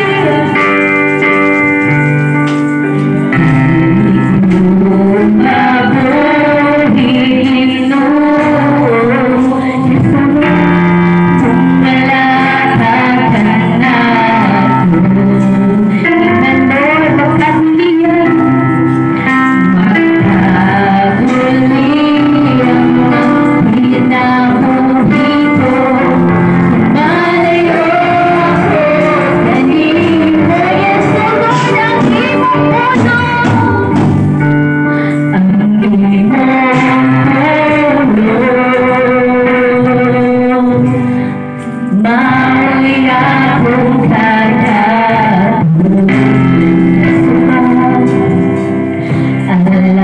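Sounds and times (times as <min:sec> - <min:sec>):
women singing worship song: 0:00.0 - 0:00.9, 0:03.8 - 0:34.3, 0:35.2 - 0:50.0
amplified instrumental accompaniment: 0:00.0 - 0:50.0.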